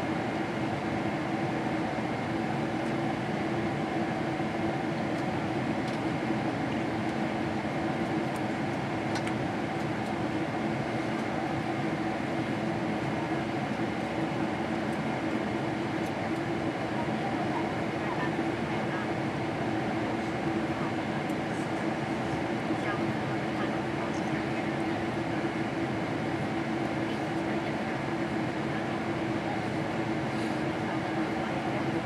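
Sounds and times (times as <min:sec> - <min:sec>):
airplane cabin drone: 0:00.0 - 0:32.0.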